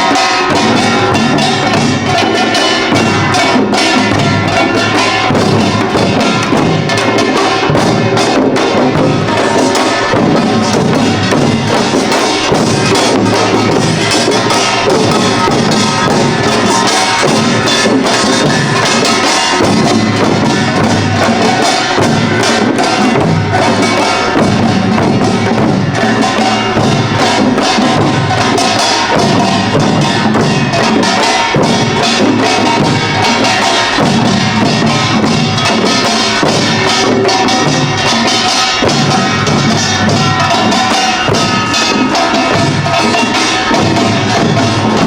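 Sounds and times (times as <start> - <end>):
drums in fast rhythm: 0.0 - 45.0
small gongs clattering: 0.0 - 45.0.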